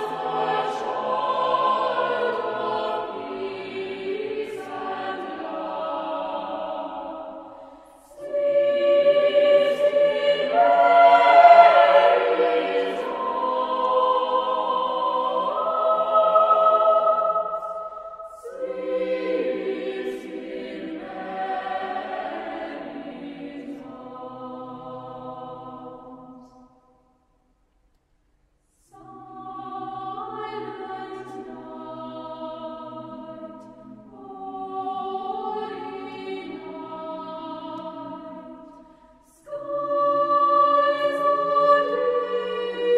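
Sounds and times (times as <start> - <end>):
choir singing: 0.0 - 27.2, 28.8 - 42.9.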